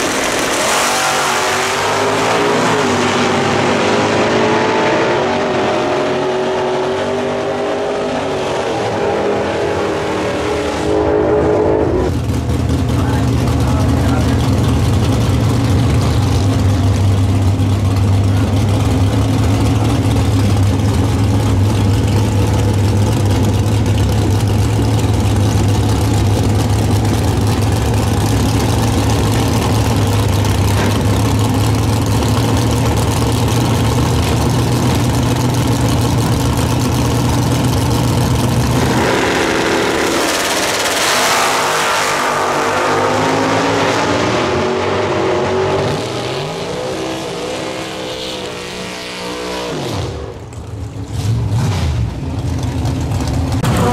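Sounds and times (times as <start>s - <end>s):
drag car engine: 0.0s - 53.9s.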